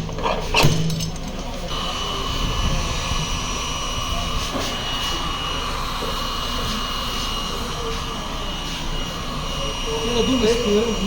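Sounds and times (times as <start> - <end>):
small motor whining: 1.4 - 11.0.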